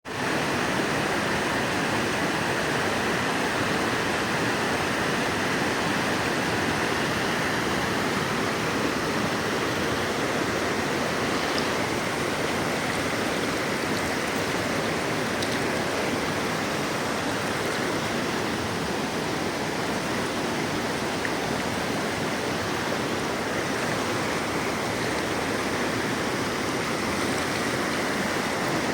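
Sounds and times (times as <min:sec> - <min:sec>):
waterfall rushing: 0:00.1 - 0:28.9.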